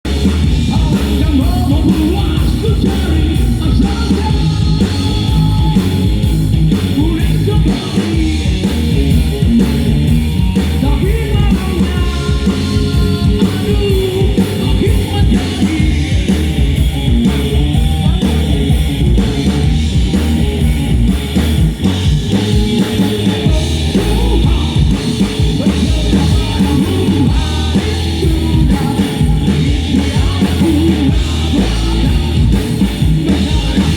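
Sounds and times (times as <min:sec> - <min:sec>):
drum kit: 0:00.0 - 0:33.9
electric guitar: 0:00.0 - 0:33.9
rock band playing: 0:00.0 - 0:33.9.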